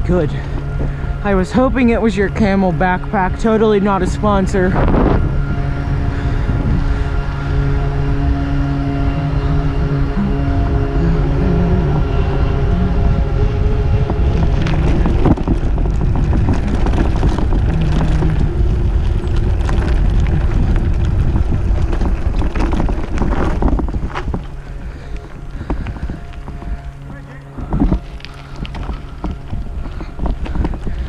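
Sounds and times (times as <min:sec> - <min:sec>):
bike rattling over rough ground: 0:00.0 - 0:31.0
wind buffeting microphone: 0:00.0 - 0:31.0.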